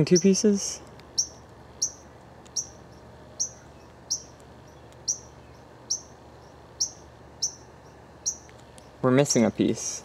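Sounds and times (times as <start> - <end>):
faint outdoor background noise: 0.0 - 10.0
small bird chirping: 0.0 - 10.0.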